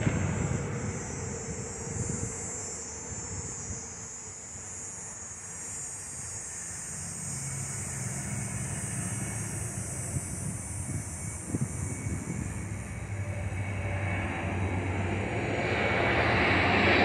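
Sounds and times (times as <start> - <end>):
jet engines whining: 0.0 - 17.0
low drone: 0.0 - 17.0.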